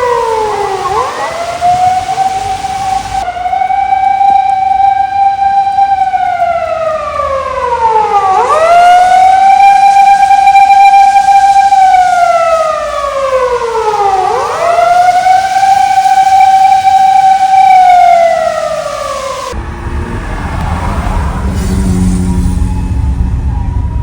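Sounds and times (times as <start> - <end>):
low traffic rumble: 0.0 - 24.0
siren wailing: 0.0 - 24.0.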